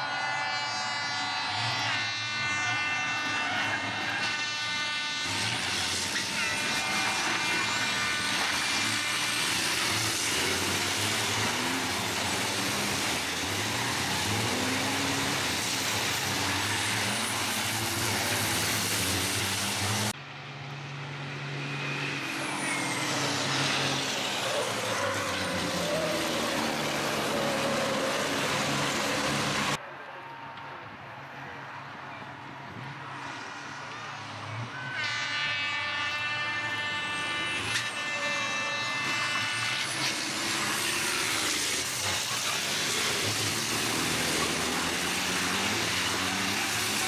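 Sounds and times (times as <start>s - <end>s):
racing truck engines revving: 0.0s - 29.8s, 32.1s - 47.0s.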